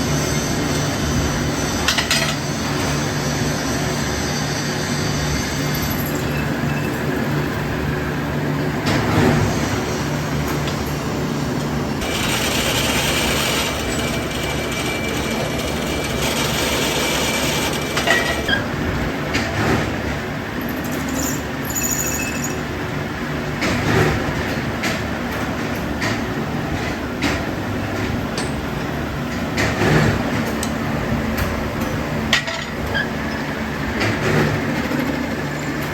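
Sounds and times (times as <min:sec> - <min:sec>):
factory machinery humming: 0:00.0 - 0:35.9.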